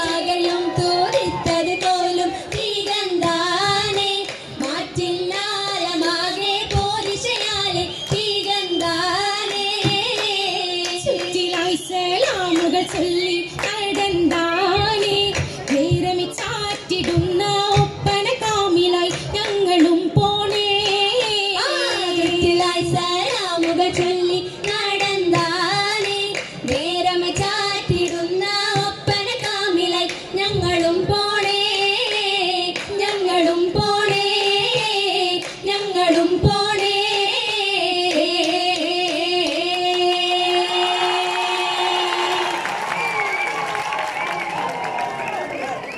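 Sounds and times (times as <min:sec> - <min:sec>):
hand claps: 0:00.0 - 0:21.4, 0:22.1 - 0:30.6, 0:31.4 - 0:40.2, 0:42.1 - 0:45.9.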